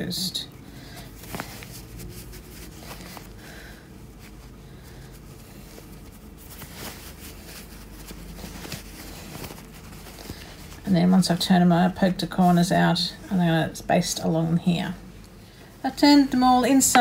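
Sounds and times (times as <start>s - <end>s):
cotton fabric rustling: 0.0s - 17.0s.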